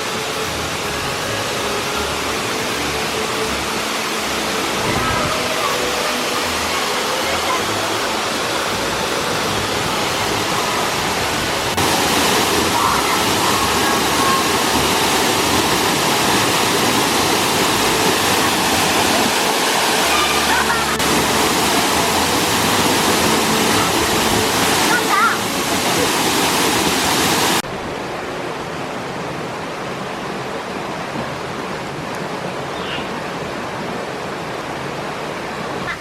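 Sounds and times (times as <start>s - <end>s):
rushing water of stream and waterfall: 0.0s - 36.0s.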